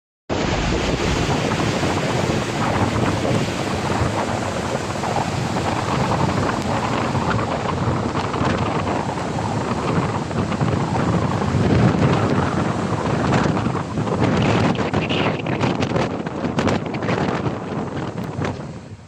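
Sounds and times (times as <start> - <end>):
wind buffeting microphone: 0.3 - 19.0.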